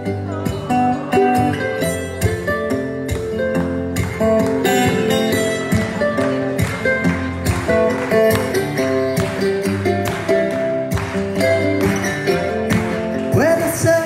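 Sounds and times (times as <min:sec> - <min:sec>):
acoustic guitar strumming: 0:00.0 - 0:14.0
guitar picking a melody: 0:00.0 - 0:14.0.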